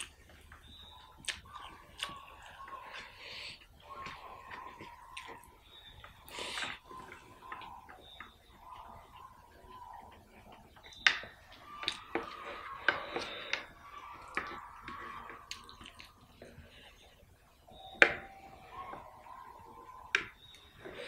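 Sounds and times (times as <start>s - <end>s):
wet hand-eating clicks and squishes: 0.0s - 21.0s.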